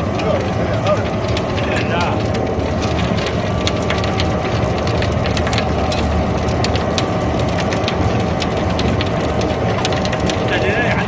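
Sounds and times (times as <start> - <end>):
pellet mill mechanical drone: 0.0 - 11.0
sharp clicks and crackles: 0.0 - 11.0.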